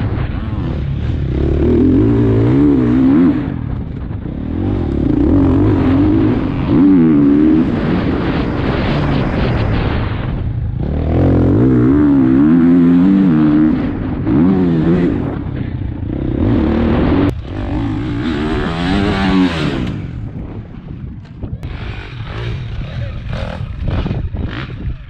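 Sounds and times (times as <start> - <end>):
motocross engine revving: 0.0 - 20.6, 21.6 - 25.0.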